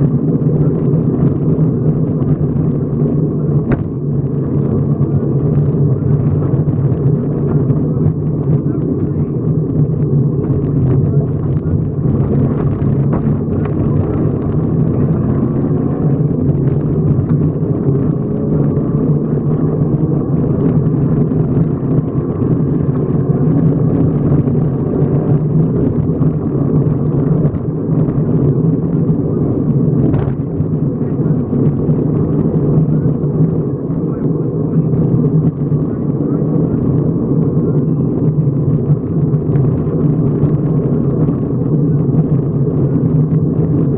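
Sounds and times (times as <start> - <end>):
car engine pulling hard: 0.0 - 43.9
gravel crackling against underside: 0.0 - 43.9.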